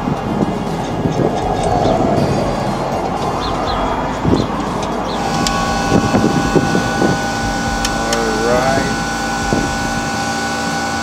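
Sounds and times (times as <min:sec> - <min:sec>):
steady multi-tone hum: 0:00.0 - 0:11.0.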